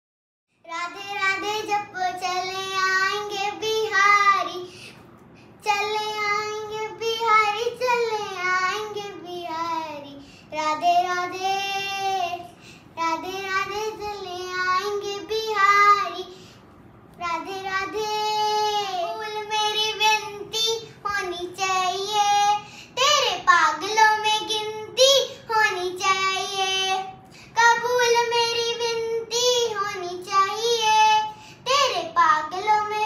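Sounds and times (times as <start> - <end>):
child singing: 0.6 - 4.7, 5.6 - 16.4, 17.2 - 33.0.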